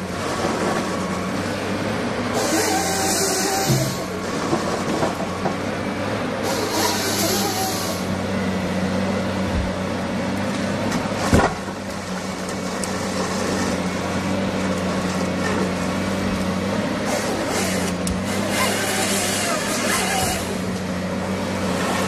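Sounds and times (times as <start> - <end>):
diesel engine under hydraulic load: 0.0 - 22.0.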